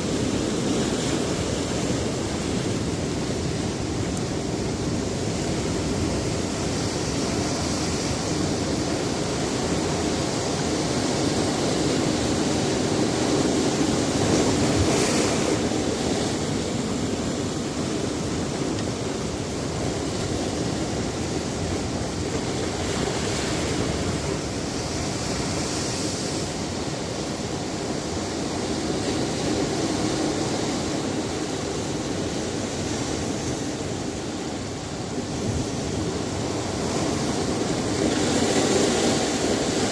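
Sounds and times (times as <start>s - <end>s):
waves breaking on rocky shore: 0.0s - 39.9s.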